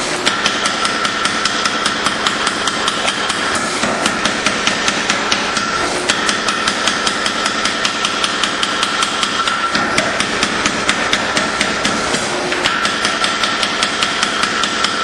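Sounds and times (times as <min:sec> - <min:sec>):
steady whine: 0:00.0 - 0:15.0
hammer blows on anvil: 0:00.2 - 0:15.0.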